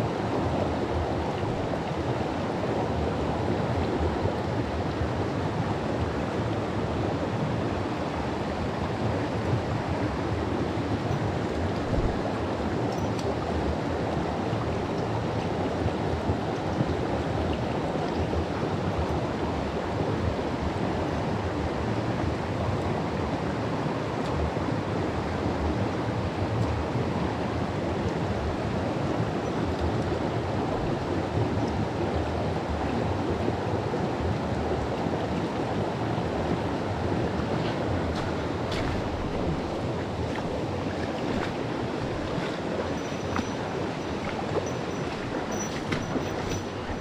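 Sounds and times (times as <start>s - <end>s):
stream water rushing: 0.0s - 47.0s.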